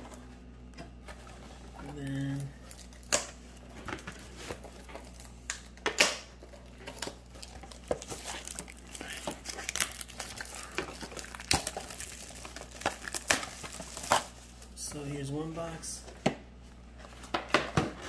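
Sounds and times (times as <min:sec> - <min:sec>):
plastic wrap crinkling: 0:00.9 - 0:15.6.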